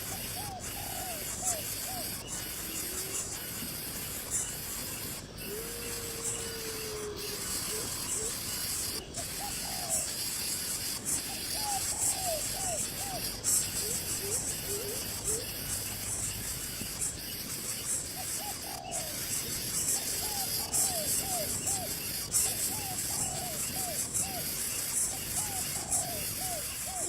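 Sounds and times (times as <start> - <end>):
faint bird chirps: 0.0 - 27.0
steady high hiss: 0.0 - 27.0.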